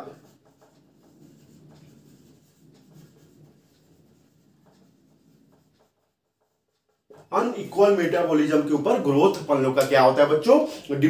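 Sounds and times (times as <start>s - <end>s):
marker scratching on whiteboard: 0.0s - 10.7s.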